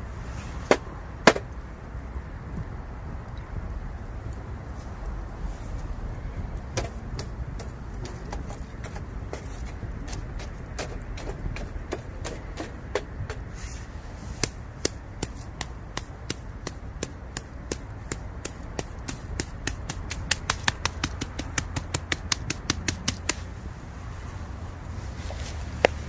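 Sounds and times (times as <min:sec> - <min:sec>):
bamboo fire crackling and popping: 0:00.0 - 0:23.6.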